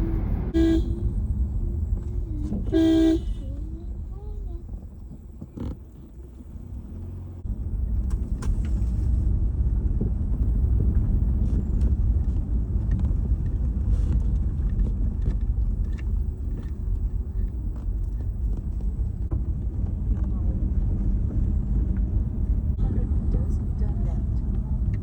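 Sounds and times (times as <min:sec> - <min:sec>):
car road rumble: 0:00.0 - 0:25.0.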